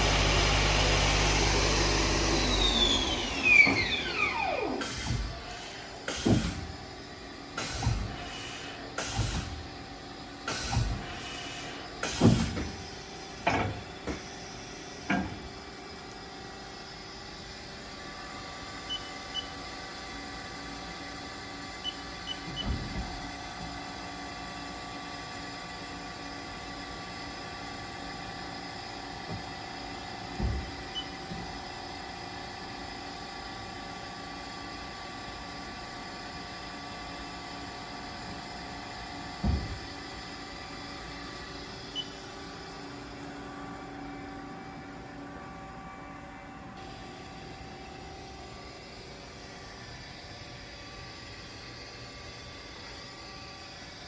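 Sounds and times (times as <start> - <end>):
machine hum with faint whining: 0.0 - 54.0.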